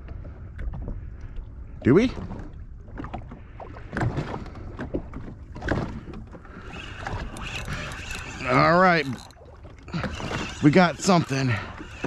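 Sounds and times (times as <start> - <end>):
water slapping against hull: 0.0 - 12.0.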